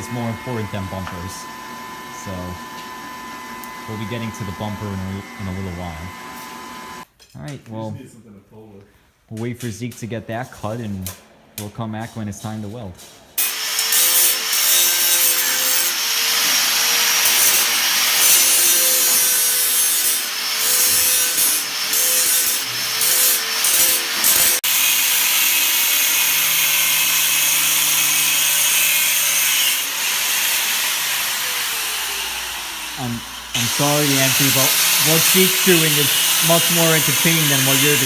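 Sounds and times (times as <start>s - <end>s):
angle grinder cutting steel: 0.0s - 7.0s, 13.4s - 38.0s.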